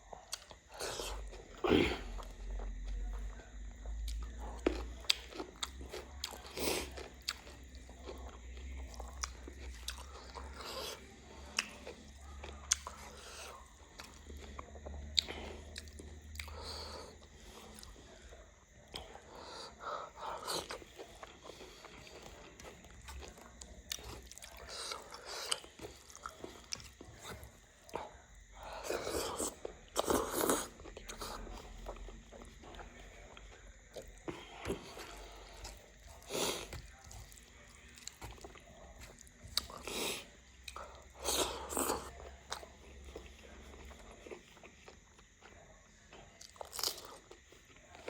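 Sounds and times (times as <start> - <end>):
person chewing and eating: 0.0 - 48.0.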